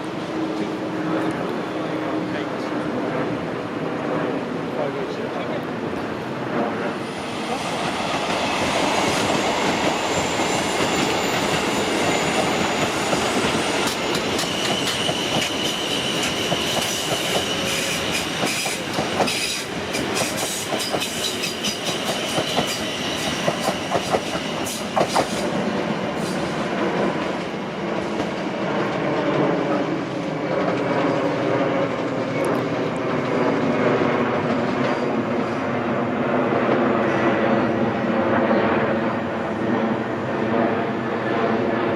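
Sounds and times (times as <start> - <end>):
electric train rumbling past: 0.0 - 41.9.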